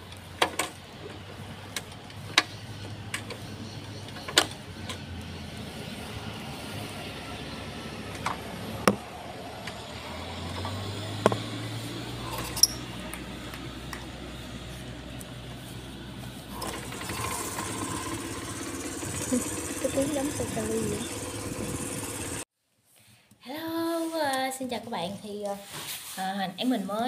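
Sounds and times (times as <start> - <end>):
truck passing: 0.0 - 22.5
vehicle engine hum: 0.0 - 22.5.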